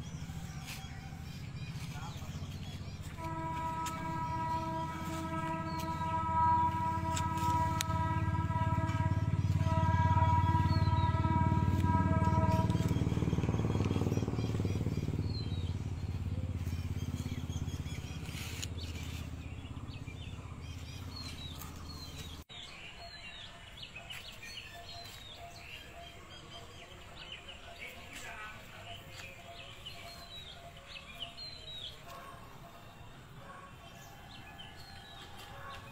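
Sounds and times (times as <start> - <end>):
engine low rumble: 0.0 - 35.9
small birds chirping: 0.0 - 35.9.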